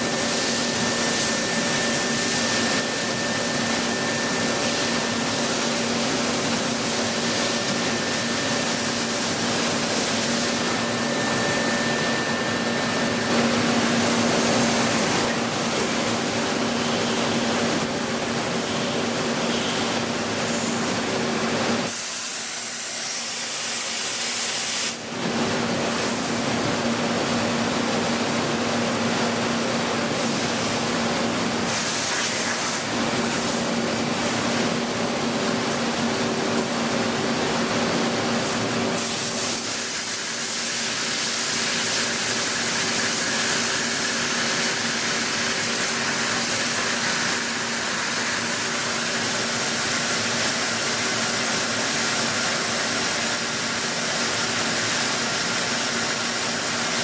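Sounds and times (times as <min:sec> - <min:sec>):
cnc machine hiss and hum: 0:00.0 - 0:57.0.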